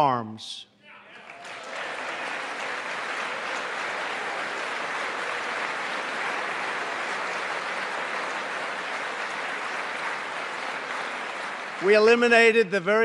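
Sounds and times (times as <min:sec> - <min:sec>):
large crowd applauding: 0:01.1 - 0:13.0.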